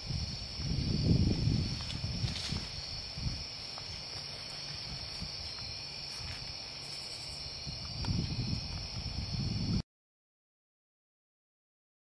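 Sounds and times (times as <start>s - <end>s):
crickets chirping: 0.0s - 9.8s.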